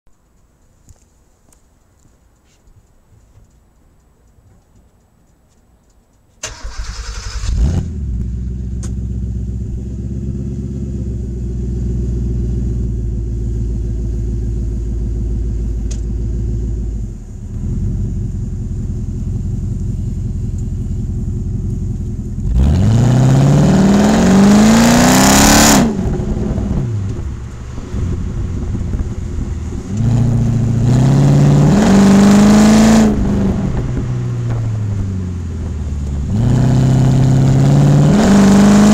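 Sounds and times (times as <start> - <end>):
car engine starting and revving: 6.4 - 38.9.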